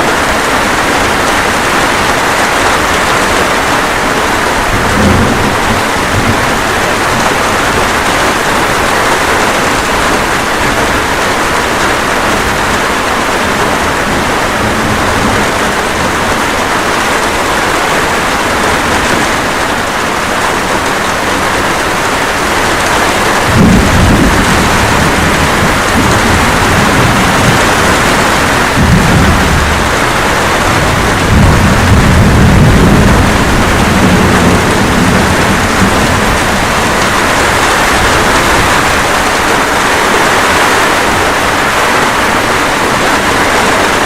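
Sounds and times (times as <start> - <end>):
light rain: 0.0 - 44.0
thunder rumbling: 0.0 - 44.0.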